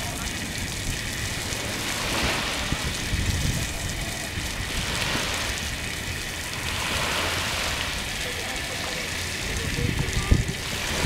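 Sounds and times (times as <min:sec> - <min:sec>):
small waves washing onto shore: 0:00.0 - 0:11.0
wind rumbling on microphone: 0:00.0 - 0:11.0.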